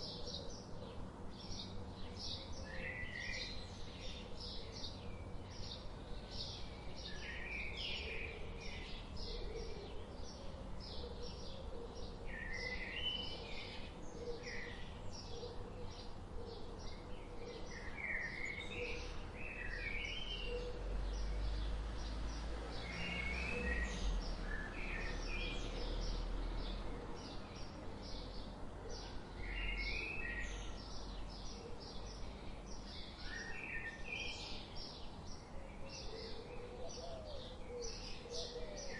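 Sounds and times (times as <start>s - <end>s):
birds chirping rapidly: 0.0s - 38.9s.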